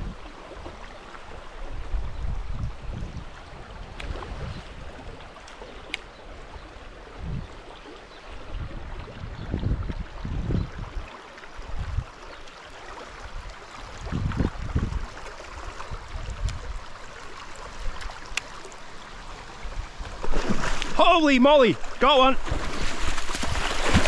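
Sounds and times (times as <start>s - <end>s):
creek water rippling: 0.0s - 24.0s.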